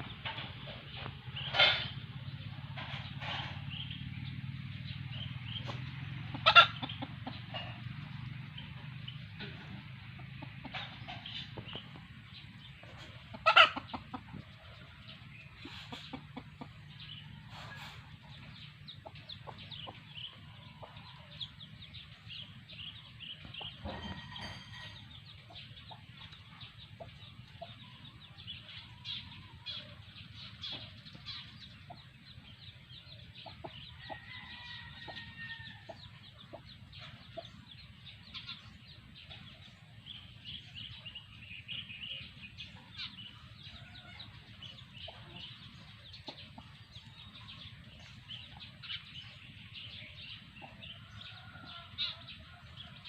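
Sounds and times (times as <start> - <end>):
chicks peeping: 0.0 - 53.0
hen clucking: 5.0 - 53.0.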